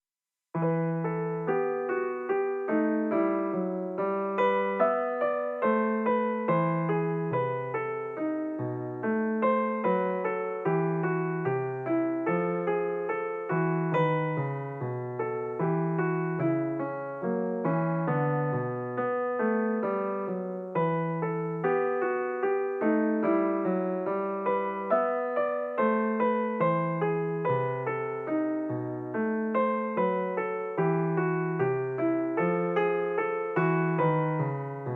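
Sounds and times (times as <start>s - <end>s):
piano background music: 0.6s - 34.9s.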